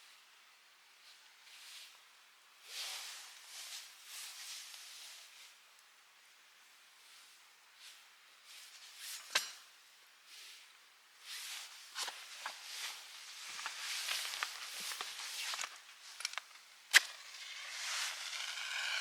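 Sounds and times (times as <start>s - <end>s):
light hiss: 0.0s - 19.0s.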